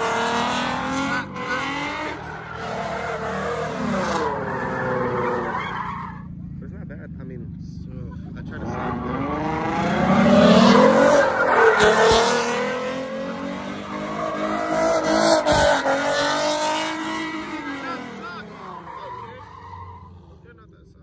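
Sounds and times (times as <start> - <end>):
car engine revving hard: 0.0 - 5.6, 8.4 - 20.4
tires squealing: 0.0 - 6.7, 8.0 - 20.7.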